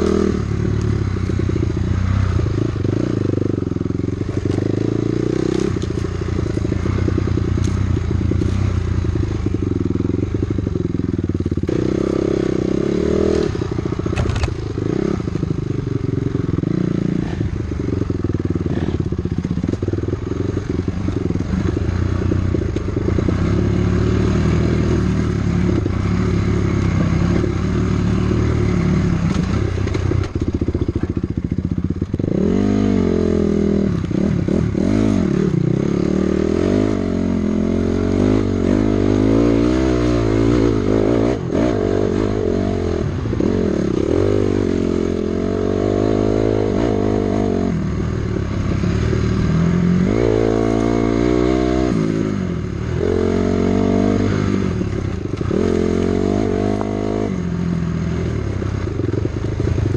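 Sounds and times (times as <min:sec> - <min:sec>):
two-stroke dirt bike engine: 0:00.0 - 0:59.9.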